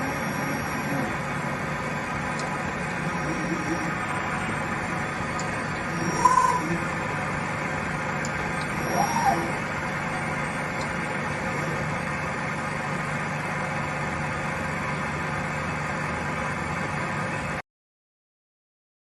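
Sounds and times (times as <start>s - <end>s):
milling machine humming: 0.0s - 17.6s.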